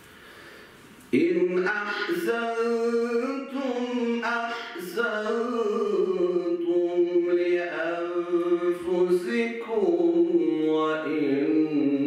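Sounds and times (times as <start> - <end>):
man chanting melodically: 1.2 - 12.0.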